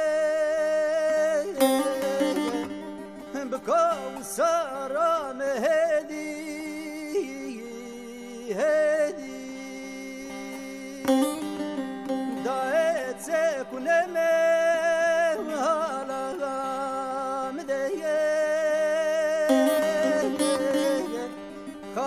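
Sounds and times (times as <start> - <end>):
ornamented folk melody: 0.0 - 22.0.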